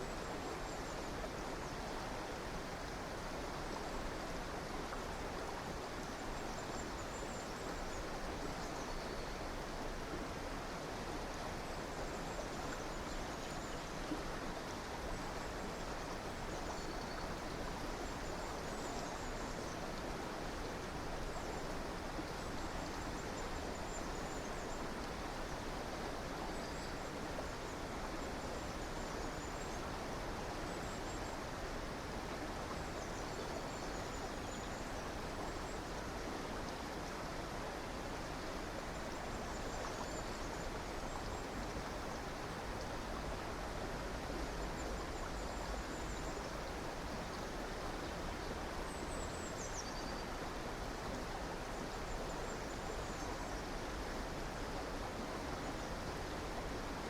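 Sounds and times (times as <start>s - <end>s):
stream rushing: 9.3s - 57.0s.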